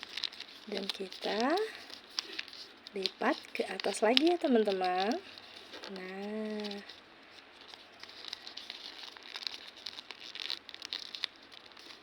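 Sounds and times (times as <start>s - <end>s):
paper being folded and creased: 0.0s - 12.0s.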